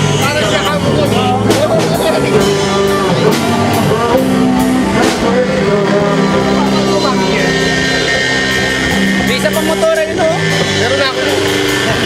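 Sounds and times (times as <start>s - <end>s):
rock song with singing: 0.0s - 12.0s.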